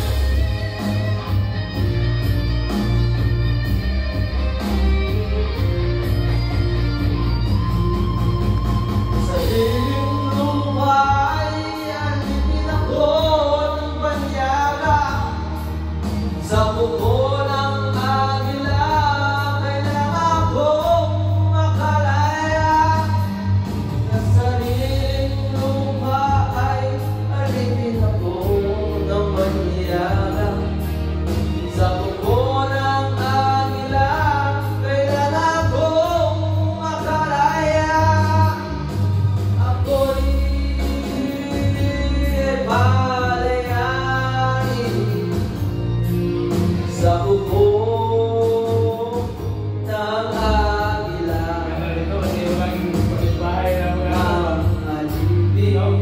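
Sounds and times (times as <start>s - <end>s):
backing track with bass line: 0.0s - 56.0s
man singing into microphone: 0.0s - 56.0s.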